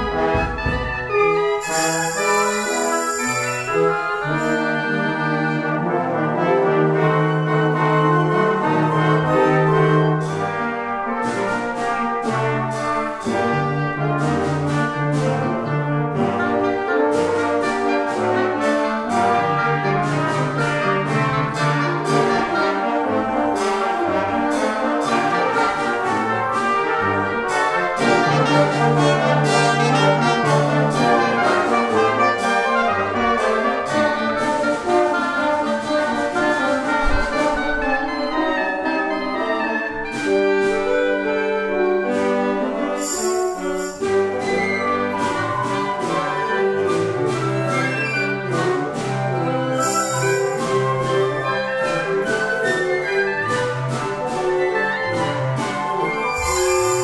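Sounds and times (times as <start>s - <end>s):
brass: 0.0s - 57.0s
concert band playing: 0.0s - 57.0s.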